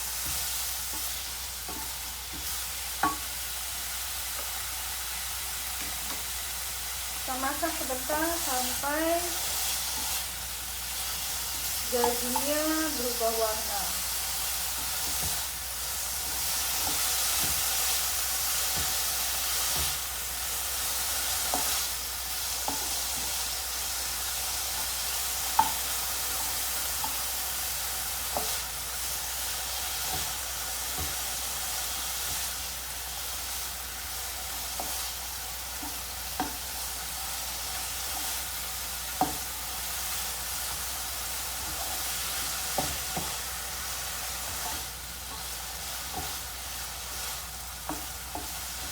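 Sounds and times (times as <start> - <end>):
meat sizzling in a pan: 0.0 - 48.9.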